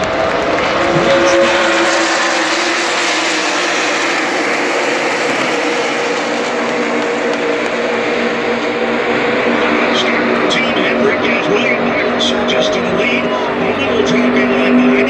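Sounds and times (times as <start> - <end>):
race cars roaring past: 0.0 - 15.0.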